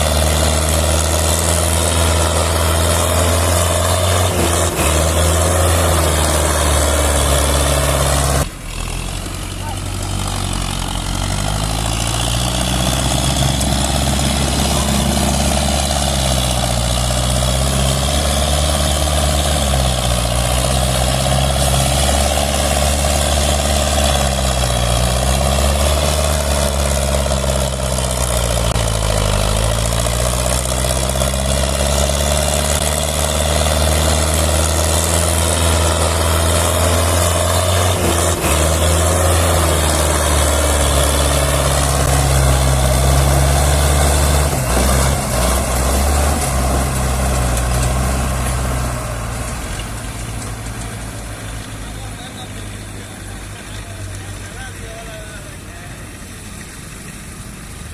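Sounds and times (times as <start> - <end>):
tractor engine straining: 0.0 - 57.9.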